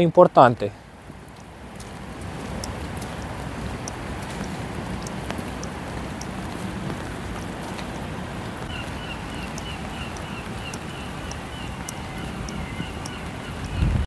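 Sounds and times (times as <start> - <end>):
raindrop ticks: 0.0 - 14.0
steady rain: 0.0 - 14.0
wind buffeting microphone: 0.8 - 14.0.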